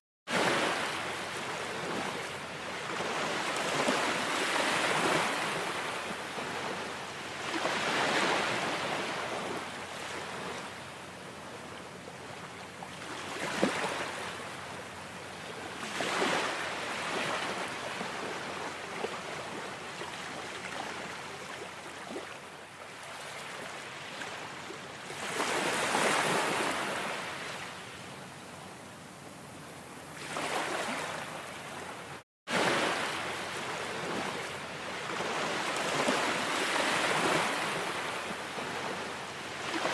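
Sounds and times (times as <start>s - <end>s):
ocean waves breaking: 0.3s - 27.8s, 30.2s - 39.9s.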